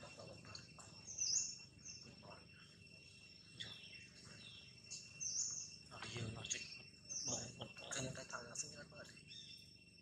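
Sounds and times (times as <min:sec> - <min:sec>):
birds chirping: 0:00.0 - 0:10.0
insects droning: 0:00.0 - 0:10.0.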